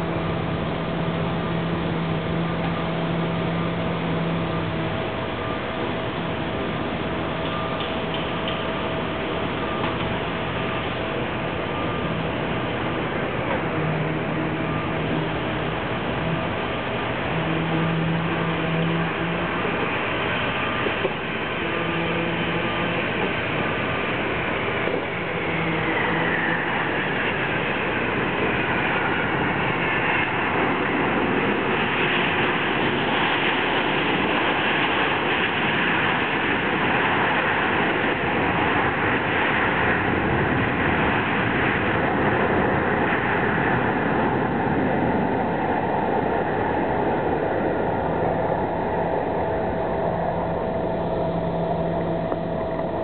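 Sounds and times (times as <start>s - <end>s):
jet engine whine falling in pitch: 0.0s - 53.0s
jet engines roaring: 0.0s - 53.0s.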